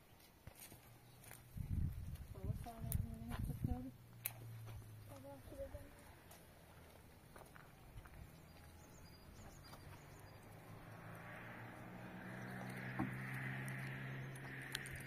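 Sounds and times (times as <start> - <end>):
low motor hum: 1.6 - 15.0.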